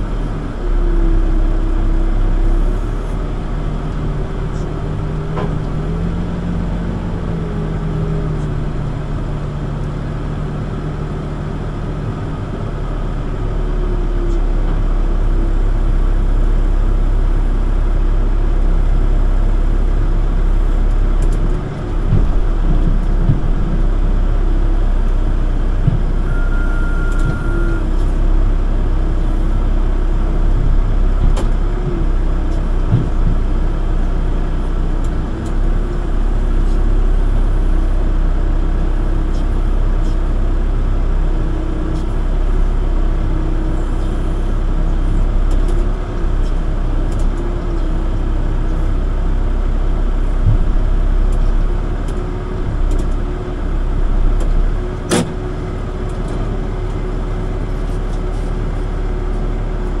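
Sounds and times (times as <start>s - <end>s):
backhoe diesel engine running: 0.0s - 60.0s.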